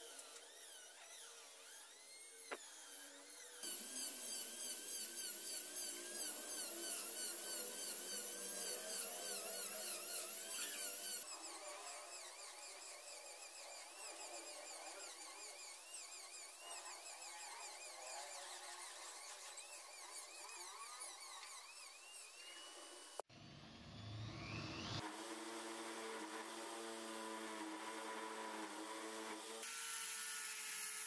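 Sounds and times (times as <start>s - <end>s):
rotary tool whining cutting wood: 0.0s - 23.3s, 23.9s - 31.0s.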